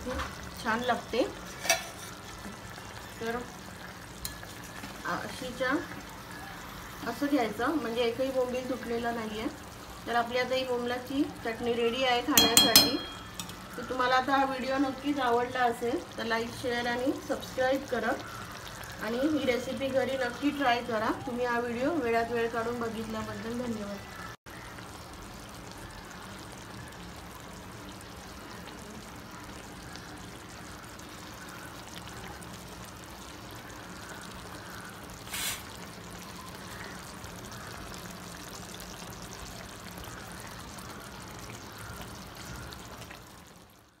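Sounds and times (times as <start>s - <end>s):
food simmering in a pan: 0.0s - 44.0s.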